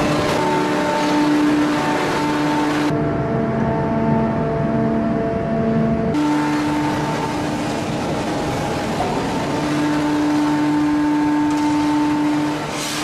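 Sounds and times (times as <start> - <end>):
industrial machinery hum: 0.0 - 13.0
machinery whine: 0.0 - 13.0.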